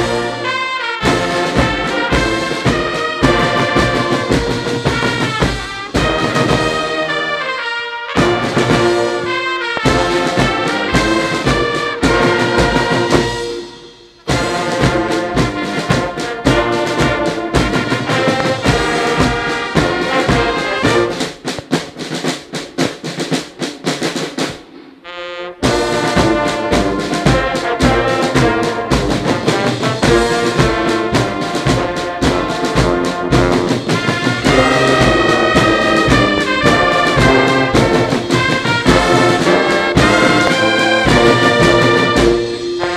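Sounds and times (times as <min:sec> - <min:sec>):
brass band with drums: 0:00.0 - 0:42.9.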